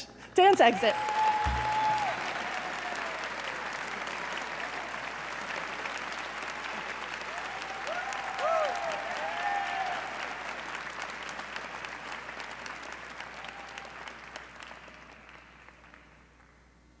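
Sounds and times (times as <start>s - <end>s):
audience applauding: 0.4s - 16.7s
audience cheering: 0.6s - 15.5s.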